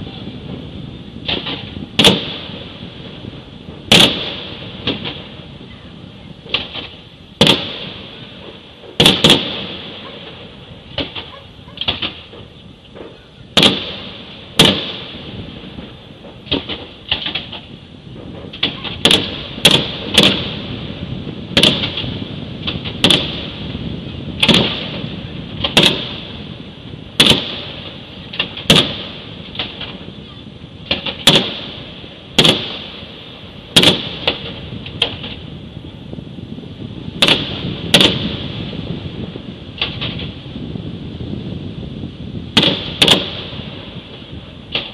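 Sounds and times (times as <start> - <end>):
firework shells bursting: 0.0 - 5.7, 6.3 - 36.0, 36.9 - 41.3, 42.3 - 44.9.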